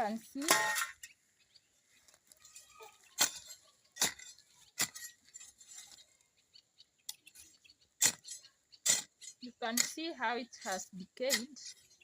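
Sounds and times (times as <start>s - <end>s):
faint ticks and scraping: 0.0s - 12.0s.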